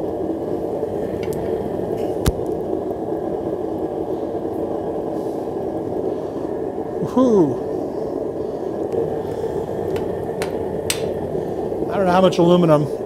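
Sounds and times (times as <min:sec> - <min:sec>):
furnace burner rushing: 0:00.0 - 0:13.0.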